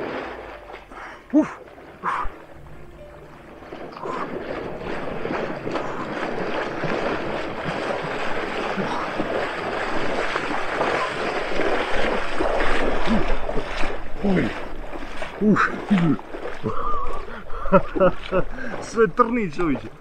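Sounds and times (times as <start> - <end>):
splashing through shallow water: 0.0 - 20.0.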